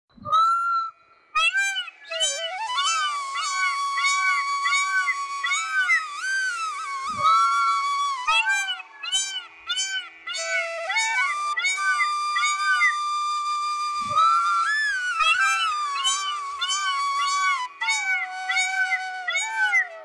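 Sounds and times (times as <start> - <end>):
flute-like melody: 0.2 - 20.0
long held tone: 0.4 - 20.0.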